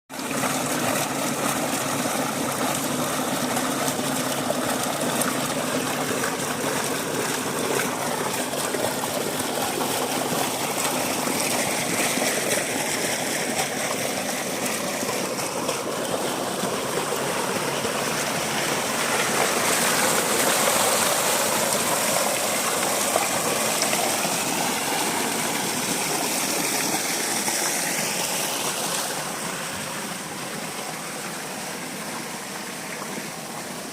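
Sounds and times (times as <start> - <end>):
water gushing from pump outlet: 0.1 - 33.9.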